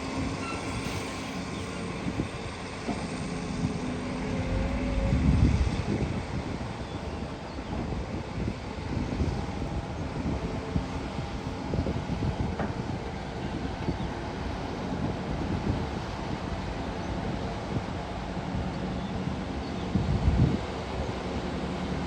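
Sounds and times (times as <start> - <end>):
excavator diesel engine running: 0.0 - 19.6
wind buffeting microphone: 0.0 - 22.0.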